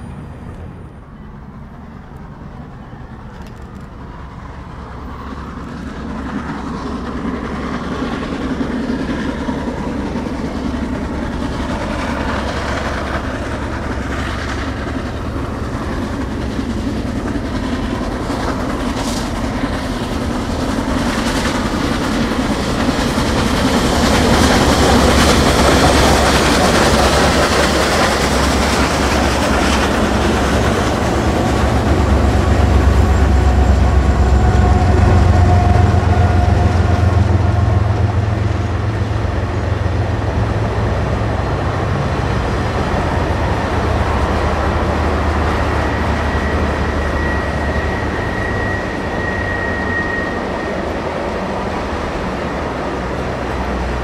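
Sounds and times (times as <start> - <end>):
diesel engine rumble: 0.0 - 54.0
steam locomotive working: 0.0 - 54.0.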